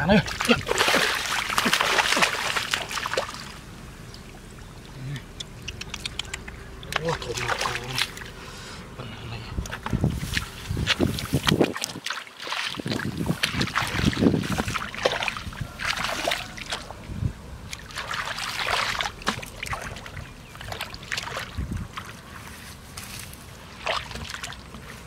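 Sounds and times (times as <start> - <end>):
shallow water splashing: 0.0 - 8.6, 9.7 - 25.0.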